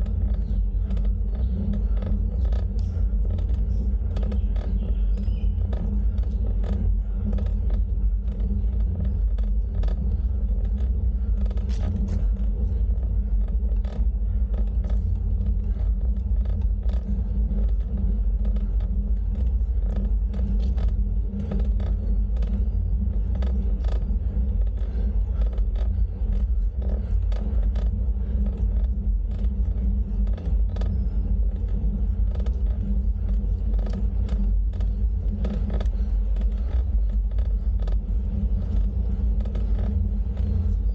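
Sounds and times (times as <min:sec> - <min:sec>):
bicycle road rumble: 0:00.0 - 0:40.9
small clicks and rattles: 0:00.0 - 0:40.9
wind buffeting microphone: 0:00.0 - 0:40.9.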